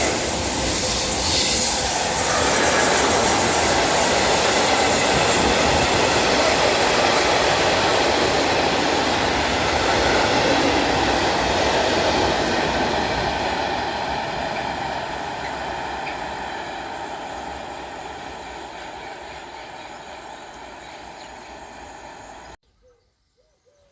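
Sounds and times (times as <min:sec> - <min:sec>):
train wheels on rails: 0:00.0 - 0:22.6.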